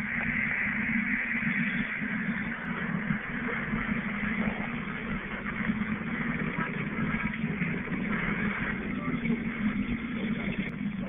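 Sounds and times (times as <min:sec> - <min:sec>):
radio hiss: 0:00.0 - 0:11.0
radio interference buzz: 0:00.0 - 0:11.0.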